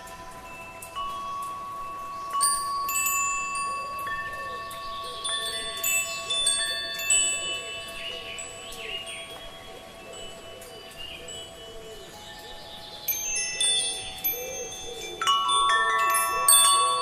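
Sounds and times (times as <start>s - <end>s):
metal wind chime ringing: 0.0s - 17.0s.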